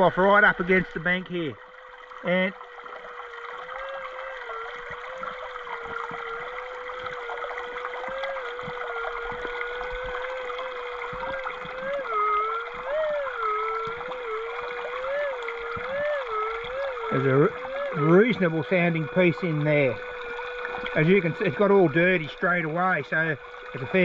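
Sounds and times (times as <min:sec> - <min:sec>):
creek trickling: 0:00.0 - 0:24.0.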